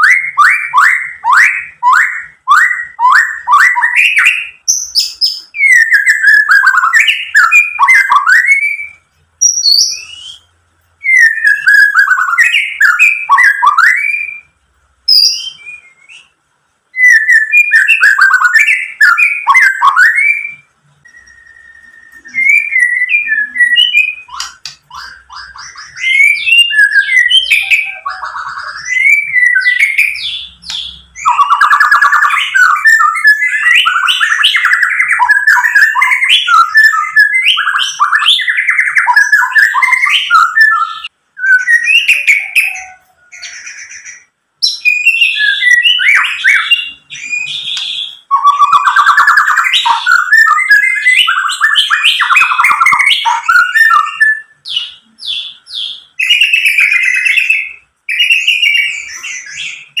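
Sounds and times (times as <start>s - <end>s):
bird singing whistled phrases: 0.0s - 60.0s.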